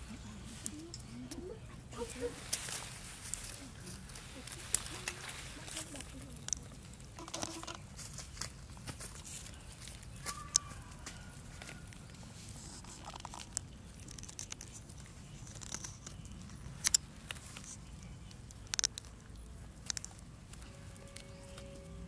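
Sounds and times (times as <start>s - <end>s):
twig scraping in soil: 2.5s - 21.7s.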